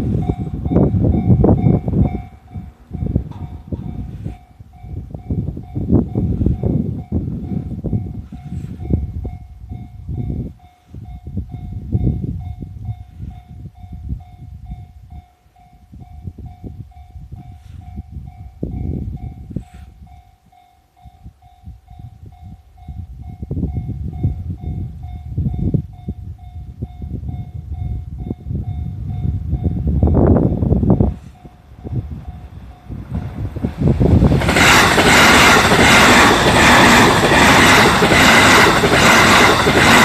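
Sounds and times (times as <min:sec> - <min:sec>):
level-crossing warning bell ringing: 0:00.0 - 0:40.0
train rumble and wheel clatter: 0:00.0 - 0:40.0.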